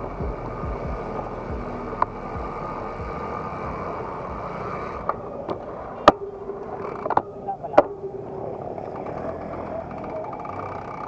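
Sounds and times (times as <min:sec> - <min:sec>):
faint hum: 0:00.0 - 0:11.0
wind and road noise: 0:00.0 - 0:11.0.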